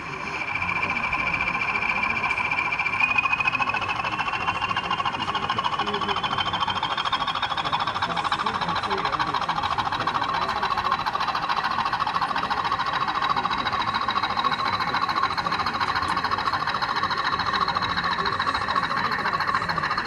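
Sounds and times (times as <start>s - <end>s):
model train rattling on track: 0.0s - 20.0s.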